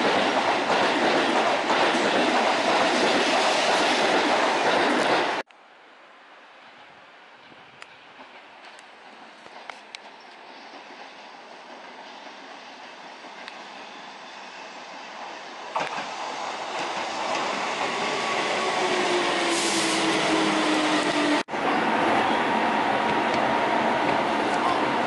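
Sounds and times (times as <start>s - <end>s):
train whine: 0.0s - 25.0s.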